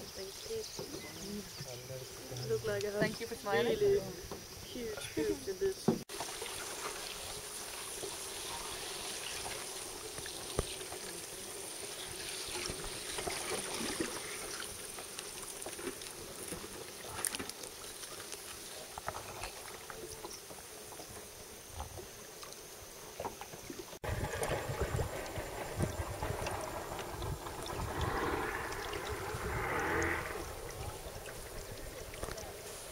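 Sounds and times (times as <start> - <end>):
reeds brushing canoe: 0.0 - 22.3, 23.1 - 32.9
water trickling and lapping: 0.0 - 32.9.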